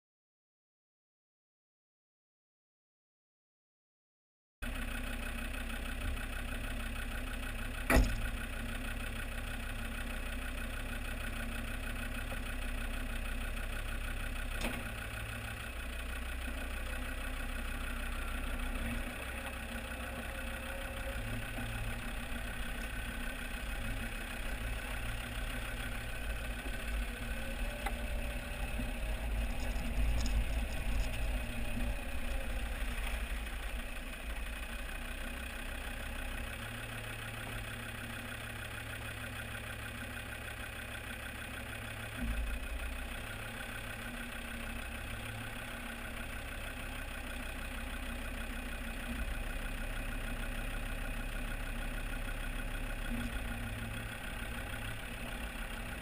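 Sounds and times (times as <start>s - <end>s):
diesel engine running: 4.6s - 56.0s.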